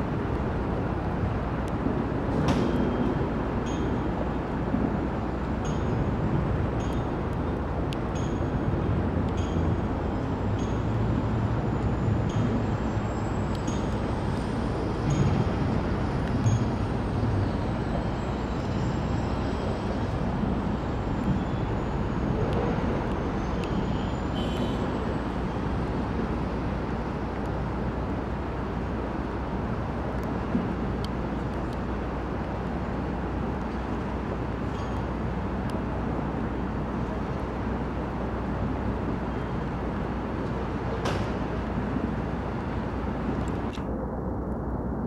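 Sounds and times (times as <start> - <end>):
trains rumbling on rails: 0.0 - 43.7
faint high whine: 2.6 - 45.0.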